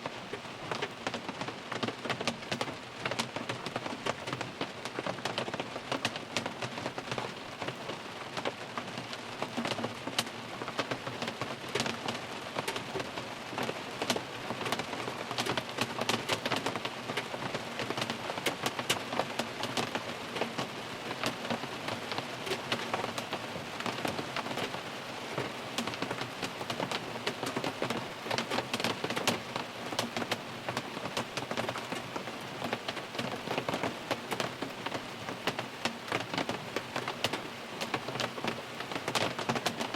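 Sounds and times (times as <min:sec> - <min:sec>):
rain on car roof and glass: 0:00.0 - 0:39.9.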